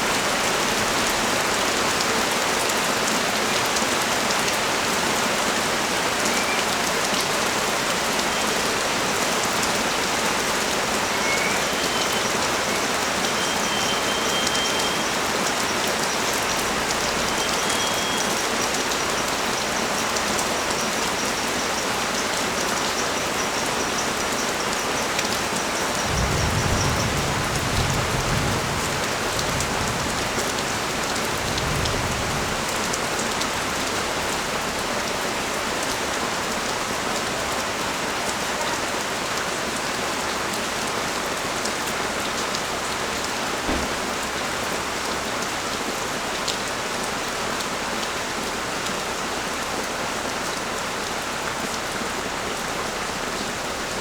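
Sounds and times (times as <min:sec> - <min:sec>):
steady rain pouring: 0:00.0 - 0:54.0.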